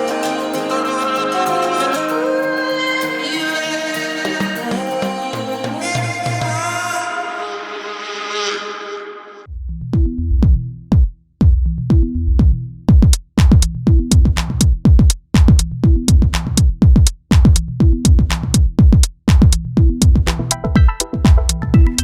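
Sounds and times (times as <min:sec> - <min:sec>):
electronic music with drum-machine beat: 0:00.0 - 0:06.7, 0:10.0 - 0:22.0.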